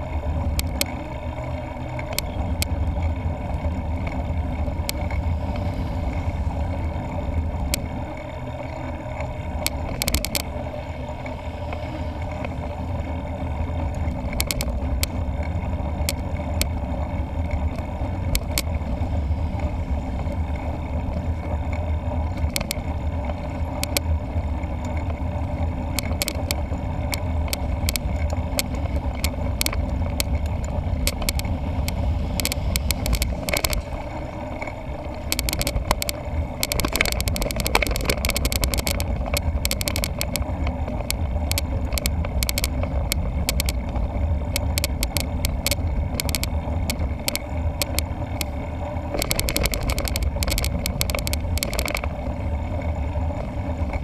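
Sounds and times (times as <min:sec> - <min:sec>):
bike clicks and rattles: 0:00.0 - 0:54.0
tyres rolling on road: 0:00.0 - 0:54.0.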